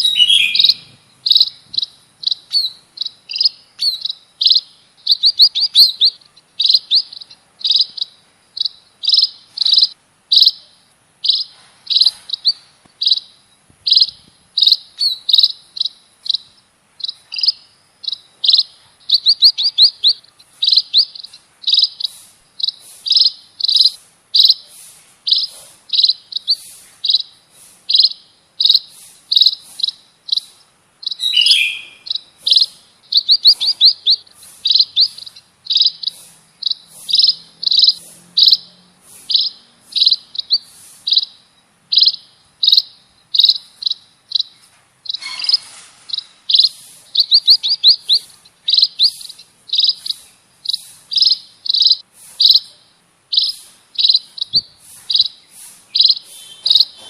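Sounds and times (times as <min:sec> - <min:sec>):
songbird chirping: 0:00.0 - 0:57.0.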